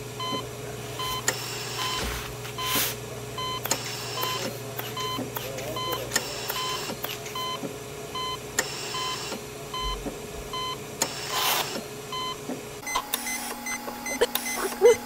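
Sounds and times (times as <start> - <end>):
heart monitor beeping: 0.2 - 2.8, 3.4 - 11.5, 12.1 - 15.0.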